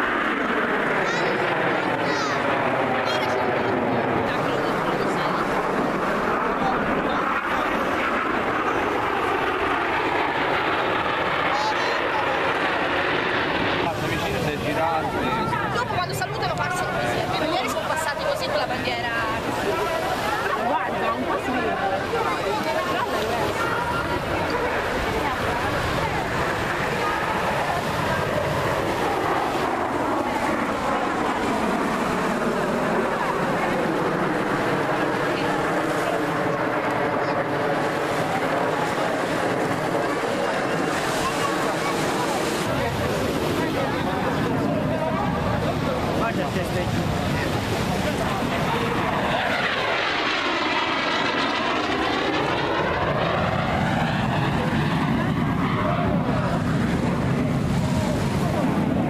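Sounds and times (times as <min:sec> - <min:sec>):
jets flying past: 0:00.0 - 0:59.0.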